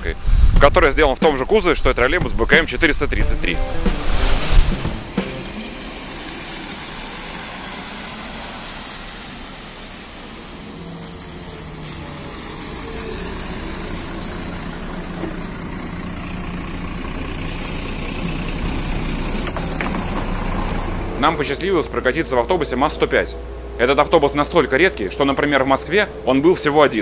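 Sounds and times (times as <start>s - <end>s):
bus diesel engine running: 3.6s - 27.0s.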